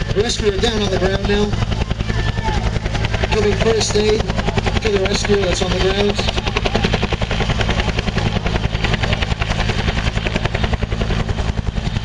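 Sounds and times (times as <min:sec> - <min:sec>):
helicopter rotor beating: 0:00.0 - 0:12.0.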